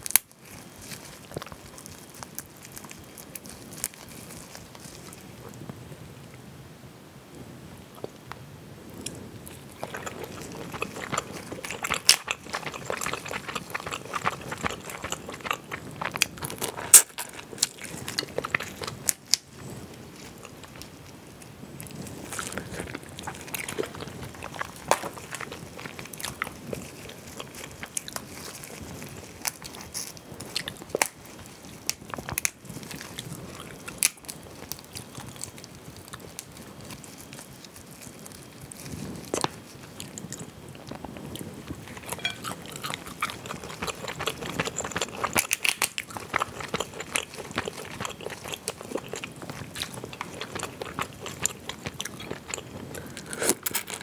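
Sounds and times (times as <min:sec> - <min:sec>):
crayfish shells cracking: 0:00.0 - 0:05.3, 0:09.5 - 0:19.5, 0:22.2 - 0:40.2, 0:41.8 - 0:54.0
chewing: 0:00.0 - 0:05.6, 0:09.0 - 0:54.0.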